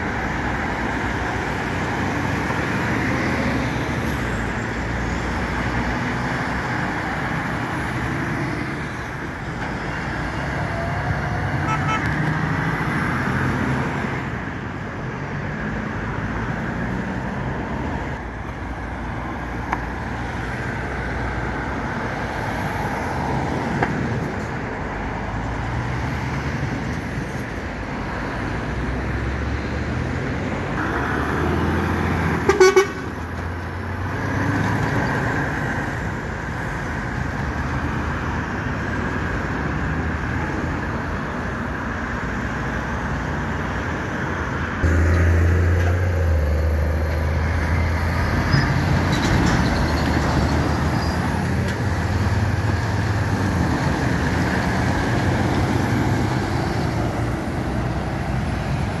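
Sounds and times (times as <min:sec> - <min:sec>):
diesel trucks passing: 0:00.0 - 0:59.0.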